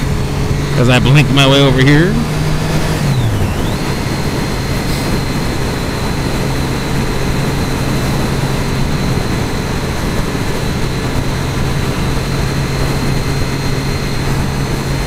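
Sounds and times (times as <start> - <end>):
motorcycle engine cruising: 0.0 - 15.0
wind noise: 1.6 - 15.0.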